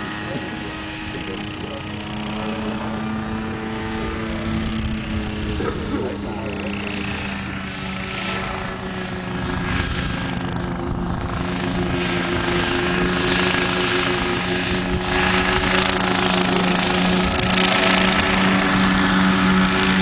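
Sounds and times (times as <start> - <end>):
helicopter engine and rotors droning: 0.0 - 20.0.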